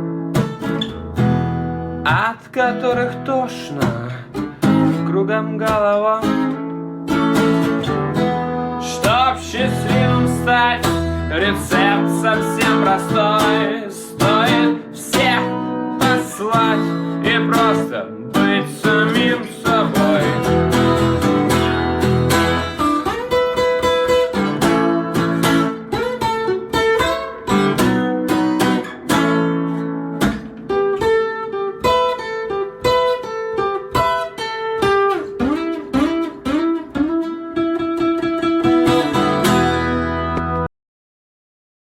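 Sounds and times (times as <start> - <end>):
blues guitar playing: 0.0 - 40.7.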